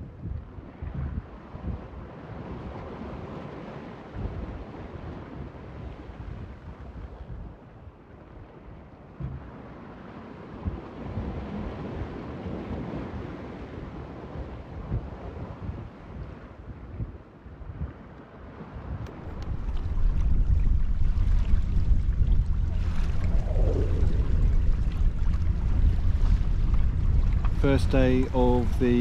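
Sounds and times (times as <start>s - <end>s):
water washing alongside boat: 0.0s - 29.0s
wind buffeting microphone: 0.0s - 29.0s.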